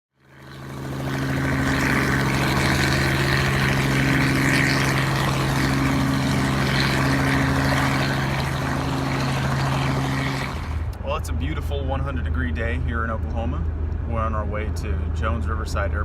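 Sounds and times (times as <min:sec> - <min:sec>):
vehicle engine hum: 0:00.1 - 0:16.0.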